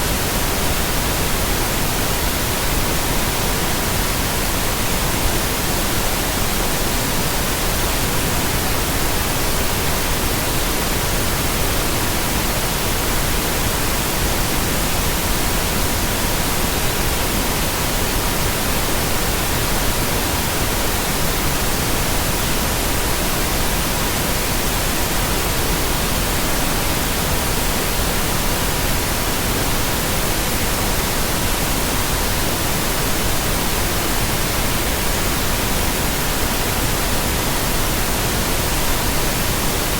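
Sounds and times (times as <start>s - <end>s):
pink noise: 0.0s - 39.9s.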